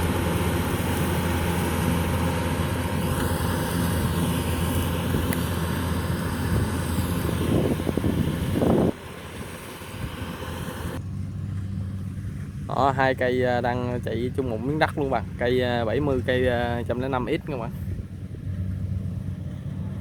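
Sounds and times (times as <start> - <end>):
combine harvester diesel engine: 0.0 - 20.0.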